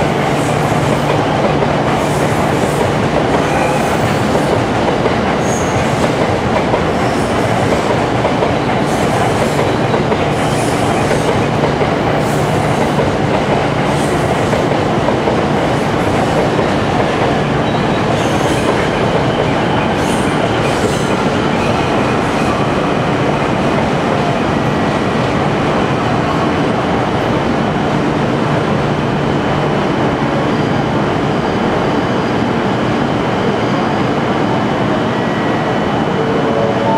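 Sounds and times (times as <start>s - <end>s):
train running on tracks: 0.0s - 36.9s.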